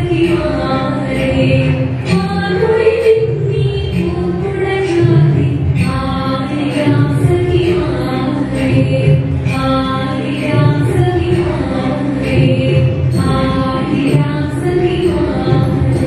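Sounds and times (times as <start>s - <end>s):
musical accompaniment: 0.0s - 16.0s
woman singing: 0.0s - 16.0s.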